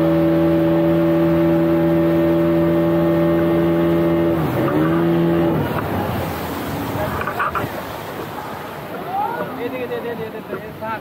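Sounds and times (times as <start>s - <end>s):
speedboat engine: 0.0s - 11.0s
water rushing: 0.0s - 11.0s.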